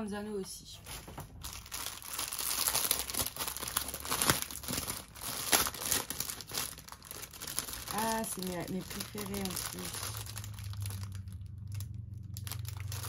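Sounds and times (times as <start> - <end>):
plastic wrapping crinkling: 0.8 - 13.0
sharp plastic crackles: 0.8 - 13.0.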